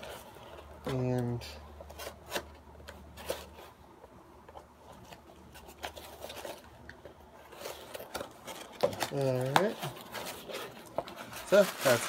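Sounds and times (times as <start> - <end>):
packing material rustling: 0.0 - 3.9, 4.7 - 12.0.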